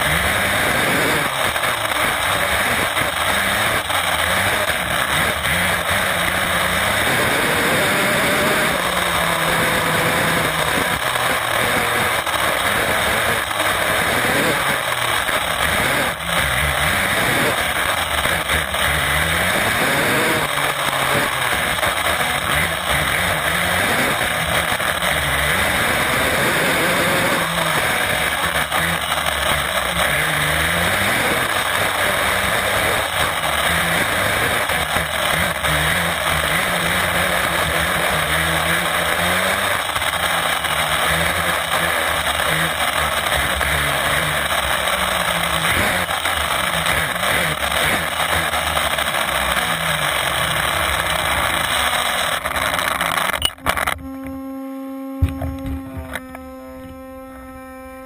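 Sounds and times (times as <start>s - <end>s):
tyre and road noise: 0.0s - 57.8s
electric motor and gear whine: 0.0s - 58.0s.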